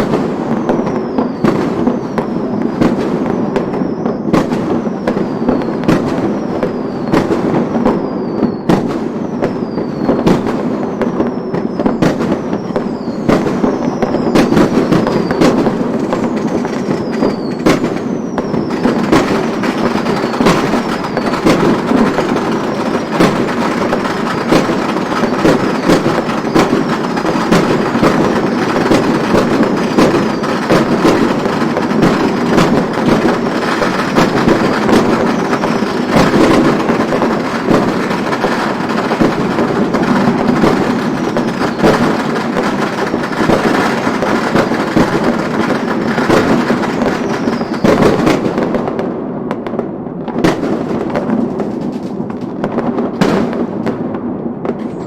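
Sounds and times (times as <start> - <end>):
firecrackers crackling: 0.0 - 55.0
firework bangs: 0.0 - 55.0
whistling fireworks: 0.0 - 55.0.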